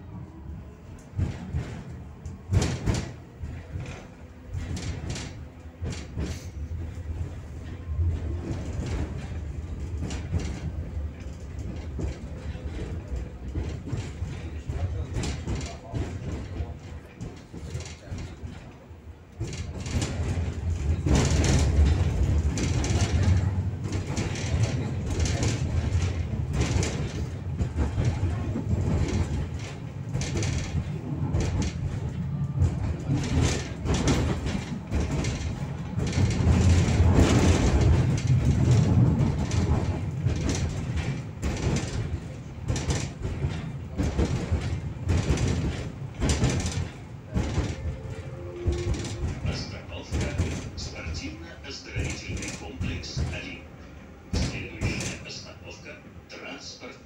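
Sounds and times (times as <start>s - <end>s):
tram wheels rumbling on rails: 0.0s - 57.0s
clicks and knocks from track: 0.2s - 56.4s.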